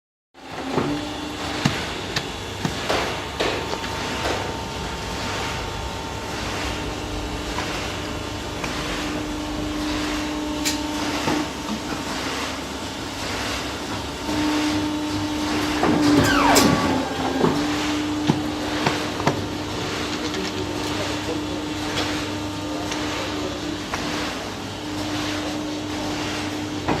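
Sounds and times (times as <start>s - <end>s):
paper cutter motor humming: 0.4s - 23.0s.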